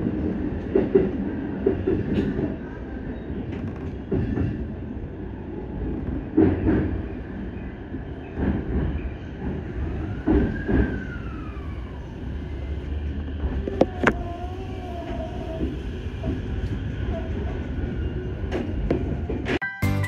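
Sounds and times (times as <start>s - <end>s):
train wheels rumbling on rail: 0.0s - 19.6s.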